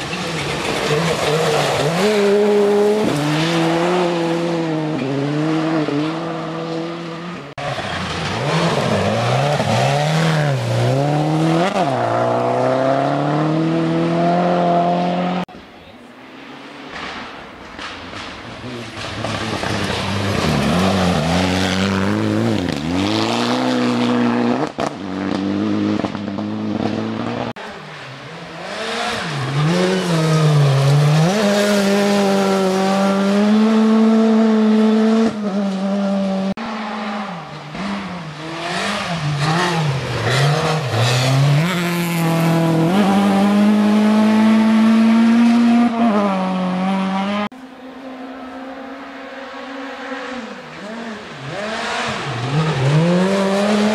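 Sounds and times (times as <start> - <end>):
rally car engines revving: 0.0 - 15.5, 17.8 - 53.9.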